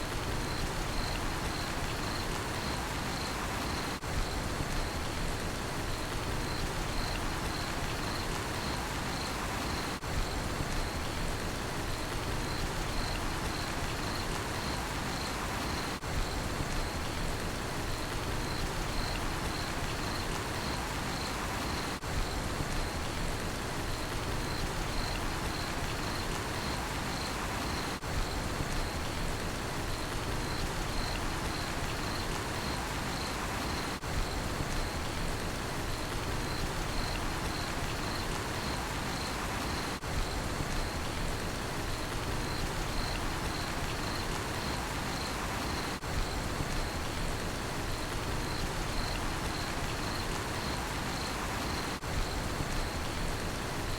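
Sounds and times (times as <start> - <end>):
rain falling: 0.0 - 53.9
cricket chirping: 0.3 - 5.1, 5.9 - 11.2, 11.9 - 17.2, 17.9 - 23.2, 24.0 - 29.2, 29.9 - 53.9.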